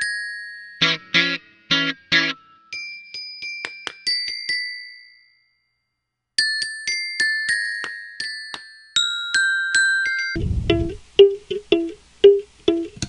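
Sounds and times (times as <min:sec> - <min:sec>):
glockenspiel notes: 0:00.0 - 0:13.0.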